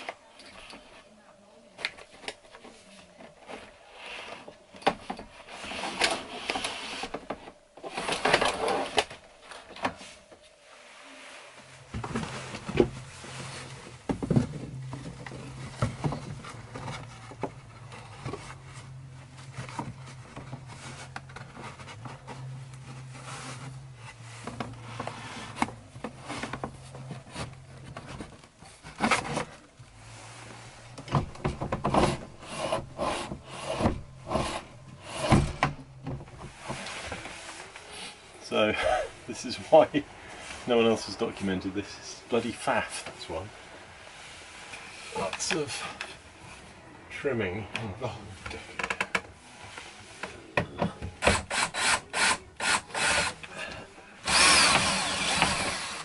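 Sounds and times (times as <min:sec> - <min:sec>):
faint low hum: 0:00.0 - 0:56.0
wood rubbing and scraping: 0:01.9 - 0:46.8, 0:48.0 - 0:56.0.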